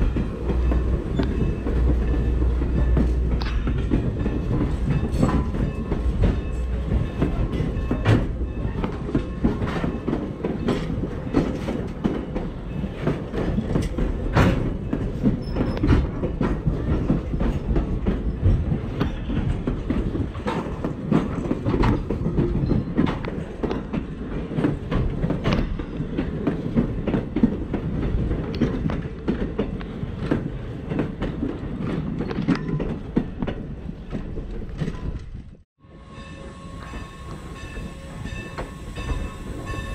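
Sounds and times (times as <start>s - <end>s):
train wheels clicking over rail joints: 0.0s - 35.6s
train rumble: 0.0s - 39.9s.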